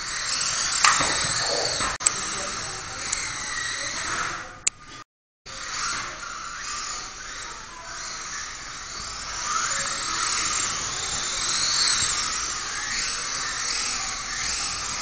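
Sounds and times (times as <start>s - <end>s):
toy car electric motor whine: 0.0s - 15.0s.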